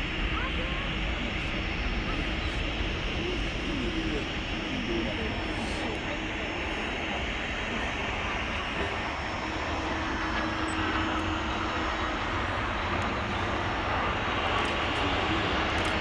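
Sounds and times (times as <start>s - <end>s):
jet engines at take-off power: 0.0s - 16.0s.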